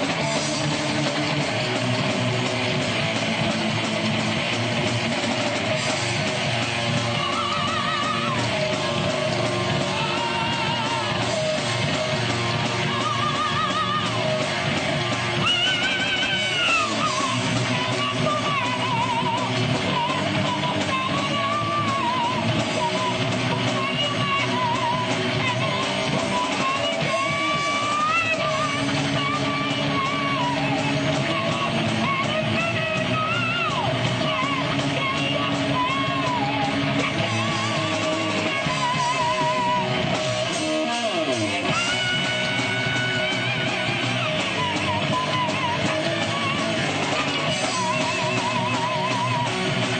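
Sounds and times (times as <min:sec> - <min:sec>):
rock band playing: 0:00.0 - 0:49.9
singer yelling: 0:06.8 - 0:49.9.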